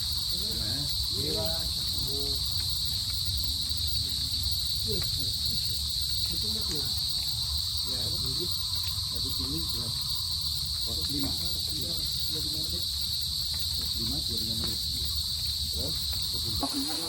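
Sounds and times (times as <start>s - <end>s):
insect chorus: 0.0s - 17.0s
faint voices: 0.2s - 17.0s.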